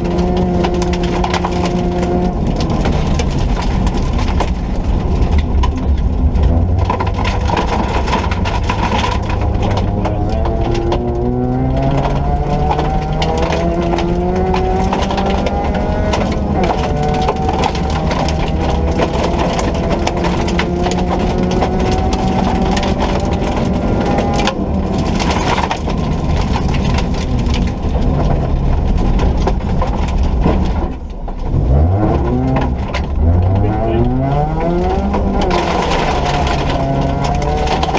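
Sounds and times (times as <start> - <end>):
dense crackle and clatter: 0.0 - 37.9
rally car engine revving through gears: 0.0 - 37.9.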